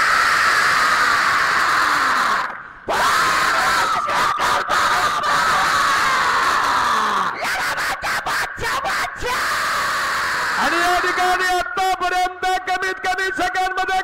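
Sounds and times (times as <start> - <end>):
crowd shouting and screaming: 0.0 - 14.0.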